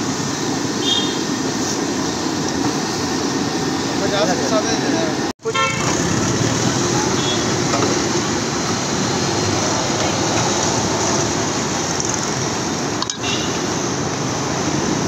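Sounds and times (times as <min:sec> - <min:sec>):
busy street food stall din: 0:00.0 - 0:15.0.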